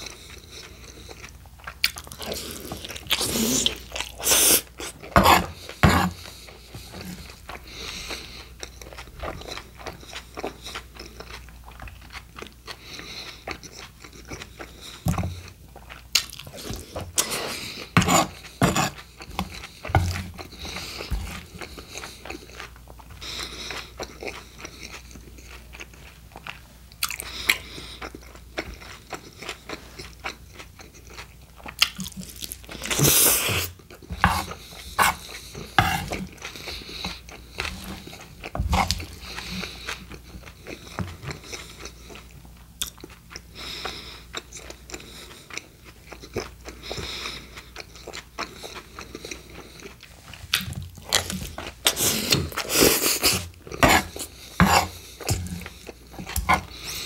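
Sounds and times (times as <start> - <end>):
close chewing with crunches: 0.0 - 57.0.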